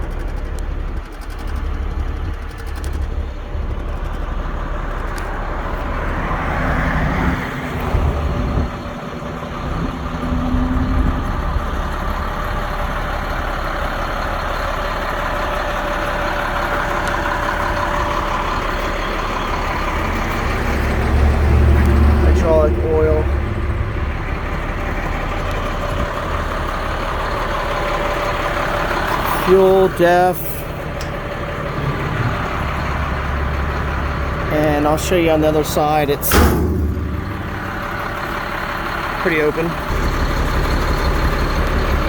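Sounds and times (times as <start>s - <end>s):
diesel truck engine idling: 0.0s - 42.0s.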